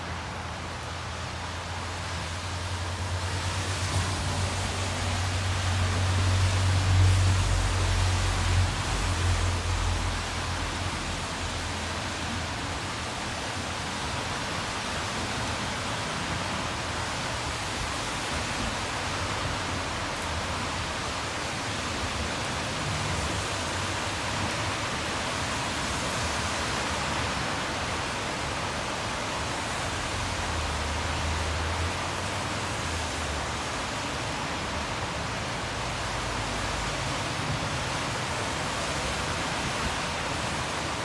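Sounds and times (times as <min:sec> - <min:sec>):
passing traffic rumble: 0:00.0 - 0:41.0
rain hissing: 0:00.0 - 0:41.0.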